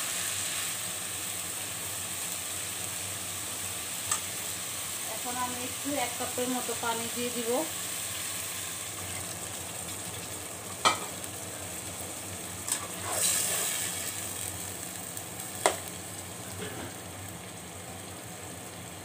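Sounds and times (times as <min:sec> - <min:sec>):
food sizzling in a pot: 0:00.0 - 0:19.0.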